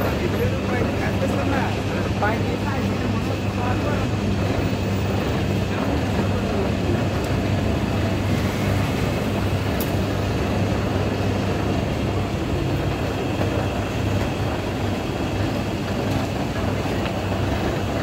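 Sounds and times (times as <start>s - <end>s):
machine hum and rumble: 0.0s - 18.0s.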